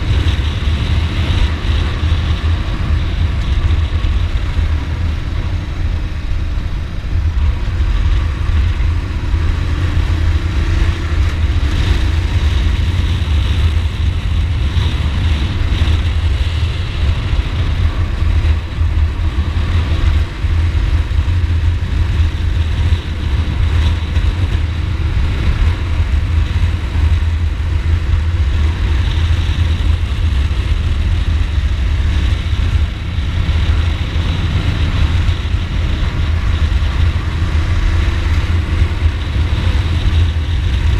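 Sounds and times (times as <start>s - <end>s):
motorcycle engine rumbling: 0.0s - 40.9s
rushing air: 0.0s - 40.9s.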